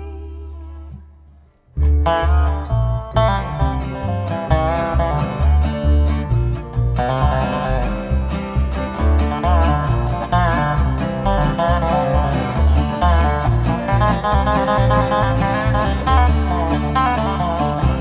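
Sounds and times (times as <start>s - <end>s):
bass line: 0.0s - 18.0s
plucked string instruments: 0.0s - 18.0s.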